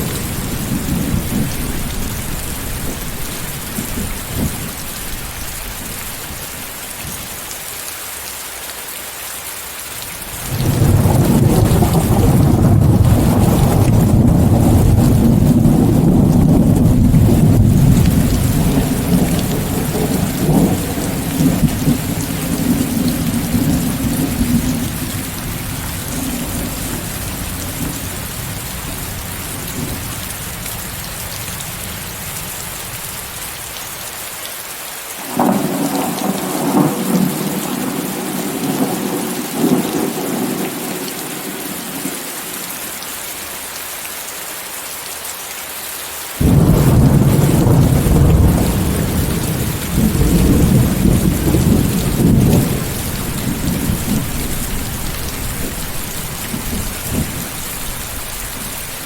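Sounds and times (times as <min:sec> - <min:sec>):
thunder rumble: 0:00.0 - 0:06.0, 0:10.4 - 0:32.3, 0:35.3 - 0:42.1, 0:46.4 - 0:59.0
heavy rain: 0:00.0 - 0:59.0.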